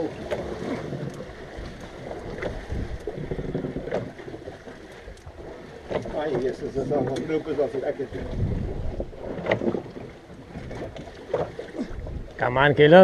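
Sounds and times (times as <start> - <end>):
wind buffeting microphone: 0.0 - 4.4, 5.2 - 11.0, 11.7 - 12.9
water washing against hull: 0.0 - 13.0.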